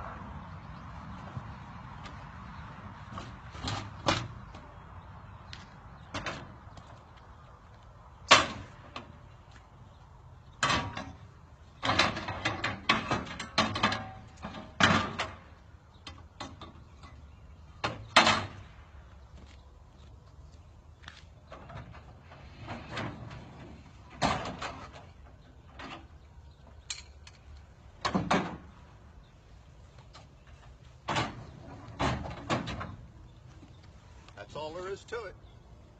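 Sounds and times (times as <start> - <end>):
knocks and clunks of motorcycles: 0.6 - 34.0.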